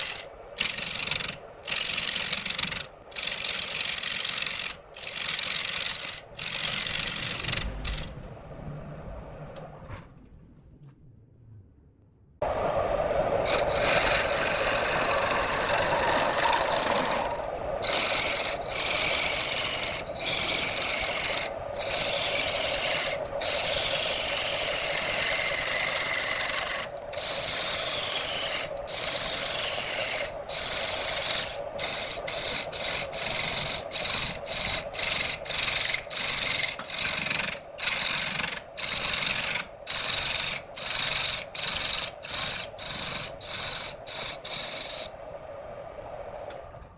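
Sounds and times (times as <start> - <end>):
wood lathe hum: 0.0 - 8.1, 12.4 - 45.1
turning tool scraping wood: 0.0 - 8.2, 13.4 - 45.1.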